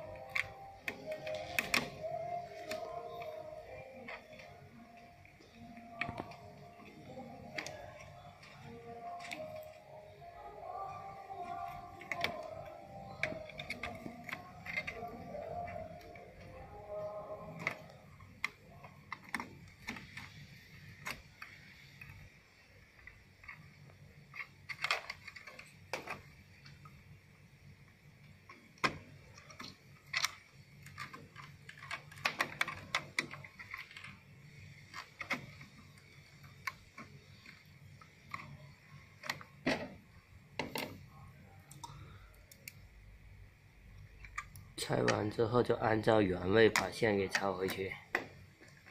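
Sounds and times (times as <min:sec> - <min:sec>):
plastic connectors clicking and rattling: 0:00.0 - 0:27.0, 0:28.3 - 0:41.1.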